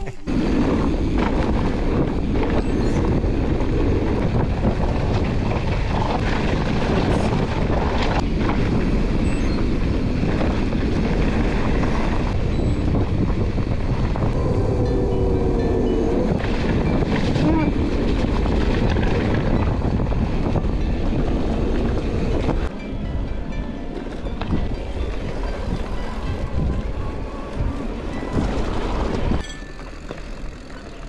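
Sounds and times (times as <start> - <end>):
wind buffeting the microphone: 0.3 - 29.5
bike tyres rumbling on rough trail: 0.3 - 31.0.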